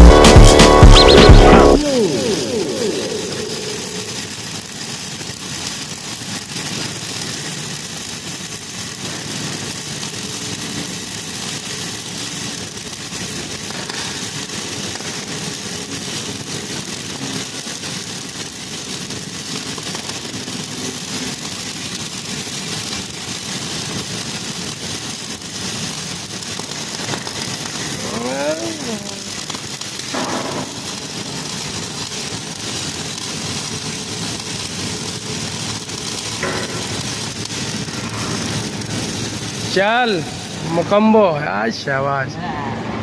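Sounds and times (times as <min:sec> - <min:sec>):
constant hiss: 0:00.0 - 0:42.4.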